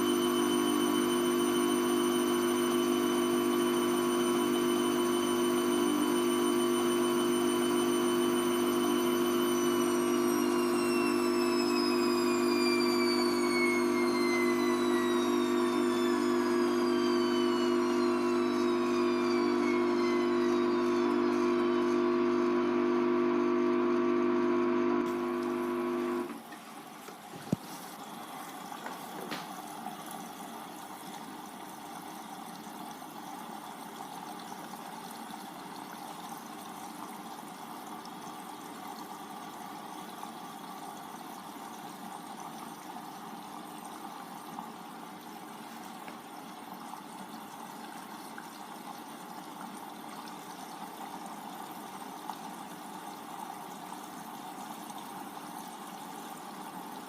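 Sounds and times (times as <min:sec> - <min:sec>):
drain pump humming: 0:00.0 - 0:57.0
water rushing in machine: 0:00.0 - 0:57.0.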